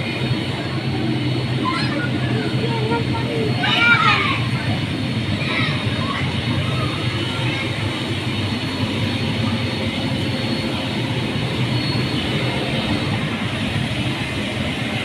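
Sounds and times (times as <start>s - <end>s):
faint high whine: 0.0s - 15.0s
low mechanical rumble of blowers: 0.0s - 15.0s.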